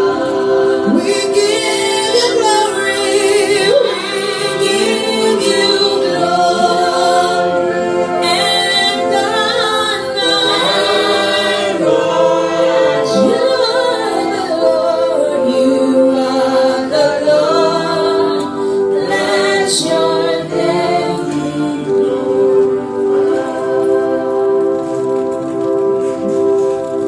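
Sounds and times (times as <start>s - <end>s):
choir singing gospel song: 0.0s - 27.0s.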